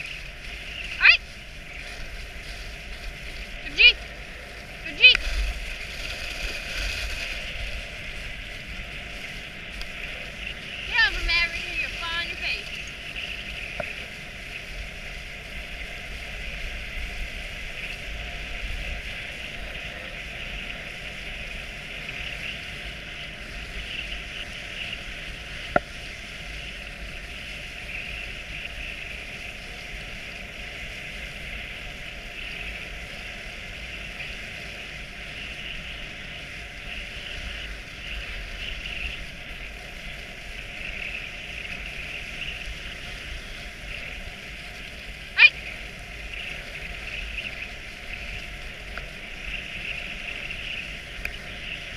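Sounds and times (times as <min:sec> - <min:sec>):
sled hissing over snow: 0:00.0 - 0:51.9
wind rumble on microphone: 0:00.0 - 0:51.9.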